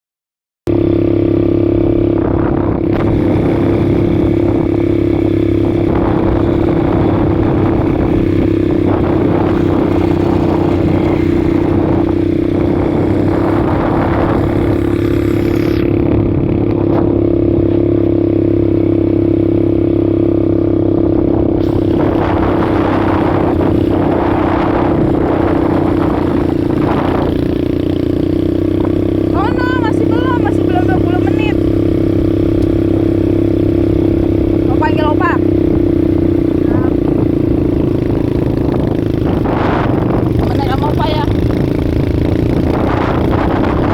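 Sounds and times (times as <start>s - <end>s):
atv engine running: 0.7s - 43.9s
rushes of noise: 0.8s - 19.6s, 21.1s - 43.9s.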